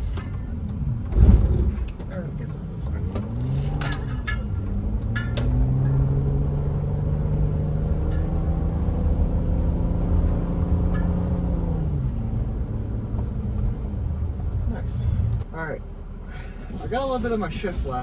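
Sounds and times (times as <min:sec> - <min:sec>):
car engine accelerating: 0:00.0 - 0:18.0
low road rumble: 0:00.0 - 0:18.0.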